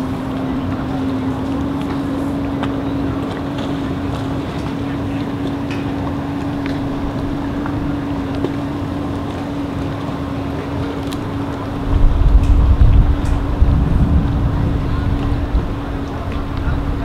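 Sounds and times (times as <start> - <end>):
boat engine idling: 0.0 - 17.0
water noise: 0.0 - 17.0
wind: 0.0 - 17.0
wind buffeting microphone: 0.0 - 17.0.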